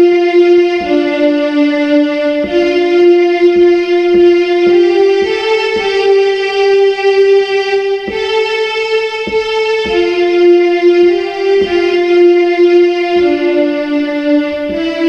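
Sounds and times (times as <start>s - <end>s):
electronic keyboard hymn melody: 0.0s - 15.0s.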